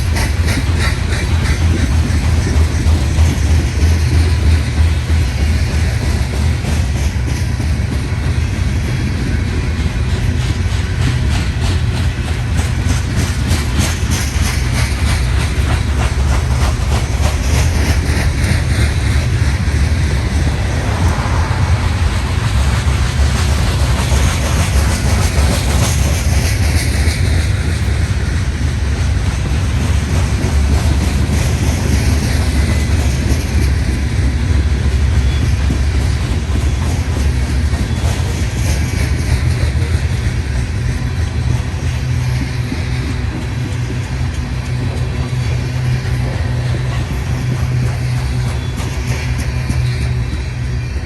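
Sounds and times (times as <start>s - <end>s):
train cars rumbling past: 0.0s - 51.0s
train wheels clicking: 0.0s - 51.0s.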